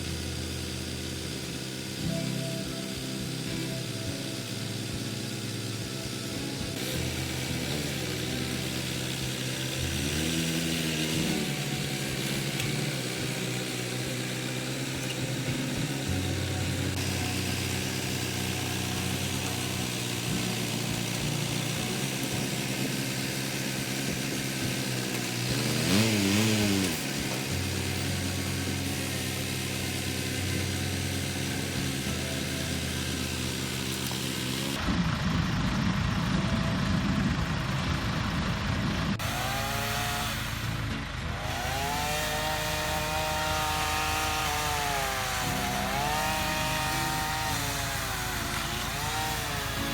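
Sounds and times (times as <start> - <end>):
diesel engine revving: 0.0 - 49.9
rough noisy engine sound: 0.0 - 49.9.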